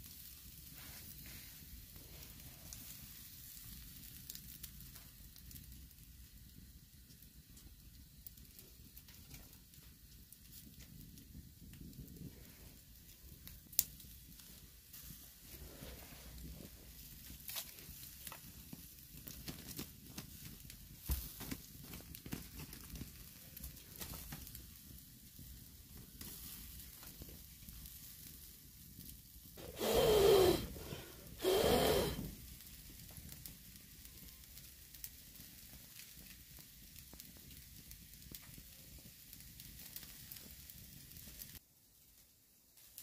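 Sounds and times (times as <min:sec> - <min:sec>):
fire crackling and popping: 0:00.0 - 0:43.0
meat sizzling over coals: 0:00.0 - 0:43.0.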